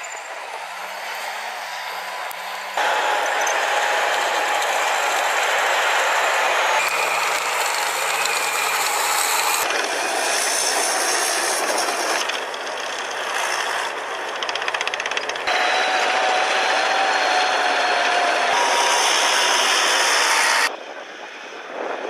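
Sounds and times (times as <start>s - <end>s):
armoured vehicle engine: 0.0s - 22.0s
clanking track rattle: 2.8s - 20.7s.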